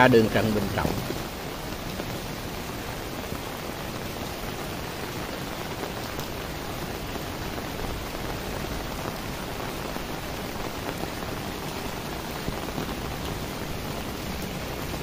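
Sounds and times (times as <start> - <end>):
heavy rain on umbrella: 0.0 - 15.0.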